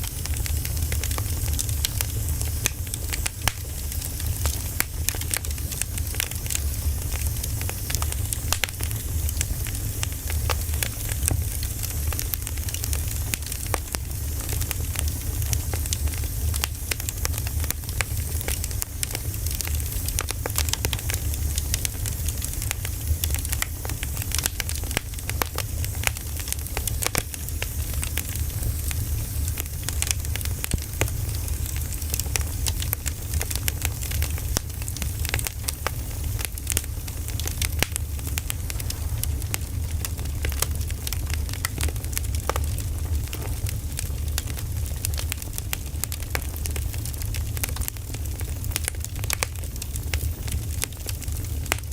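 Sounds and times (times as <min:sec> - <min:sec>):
steady low rumble: 0:00.0 - 0:49.5
firewood crackling and popping: 0:00.0 - 0:51.9.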